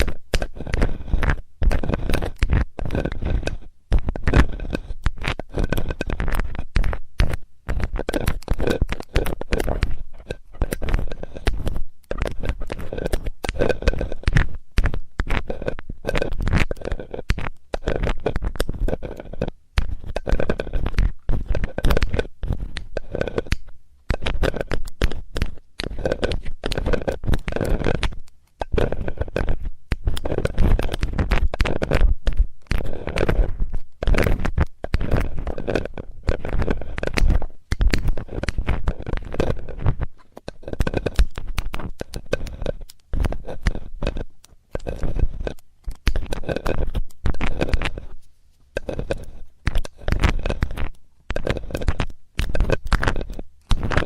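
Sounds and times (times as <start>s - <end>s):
metal tool scraping in ear: 0.0s - 54.0s.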